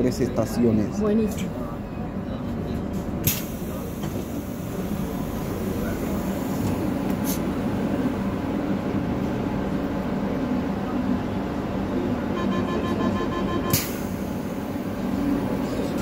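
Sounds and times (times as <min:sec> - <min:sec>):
train equipment hum: 0:00.0 - 0:16.0.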